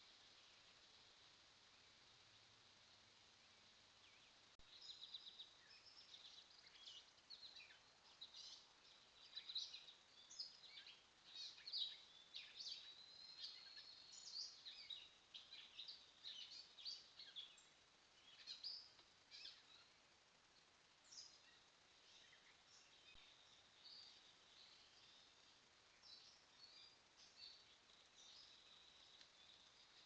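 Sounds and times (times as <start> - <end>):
faint hiss: 0.0 - 30.0
songbirds singing: 0.0 - 30.0.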